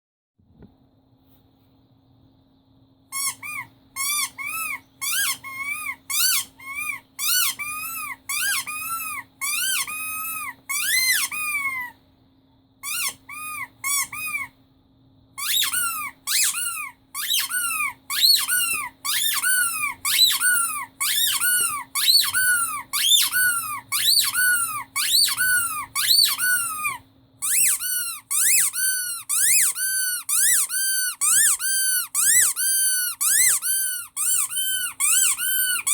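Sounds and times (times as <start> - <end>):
rubber squeaky toy squeaking: 3.1 - 12.0, 12.8 - 14.6, 15.4 - 35.9.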